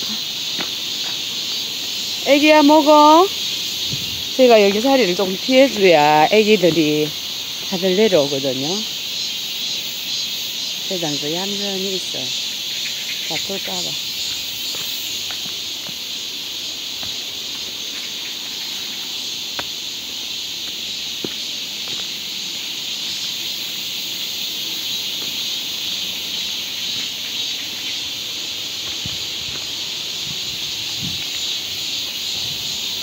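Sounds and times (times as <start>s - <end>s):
insects chorus: 0.0s - 33.0s.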